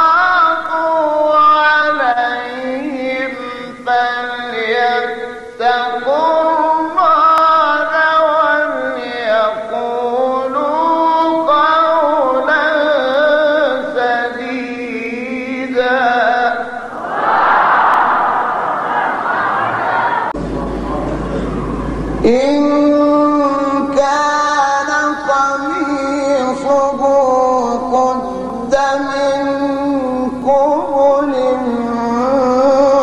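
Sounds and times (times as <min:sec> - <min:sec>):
man reciting melodically: 0:00.0 - 0:16.9, 0:20.6 - 0:33.0.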